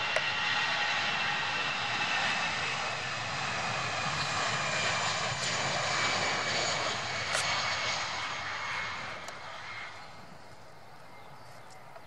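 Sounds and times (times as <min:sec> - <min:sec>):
jet engines roaring: 0:00.0 - 0:11.3.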